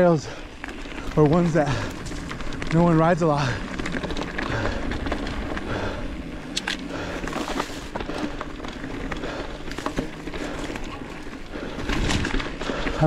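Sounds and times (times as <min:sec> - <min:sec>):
bike rattling: 0:00.0 - 0:13.0
tyres crunching on gravel: 0:00.0 - 0:13.0.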